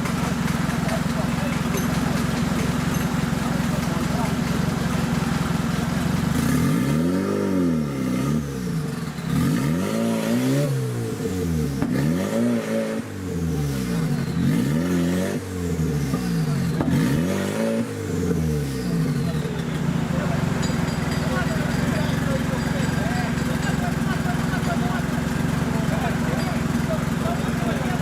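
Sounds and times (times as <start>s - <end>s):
off-road vehicle engine revving: 0.0s - 28.0s.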